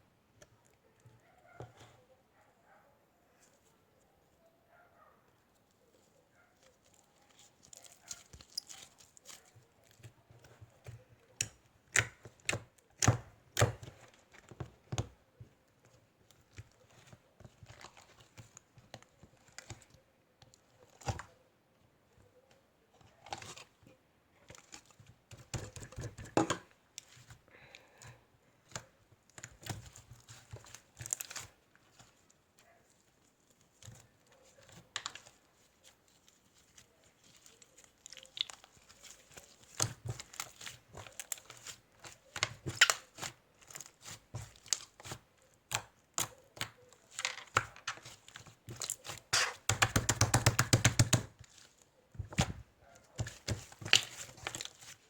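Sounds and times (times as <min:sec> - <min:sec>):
rustling and crinkling: 0:00.4 - 0:04.4, 0:05.3 - 0:12.8, 0:13.8 - 0:49.9, 0:50.7 - 0:55.0.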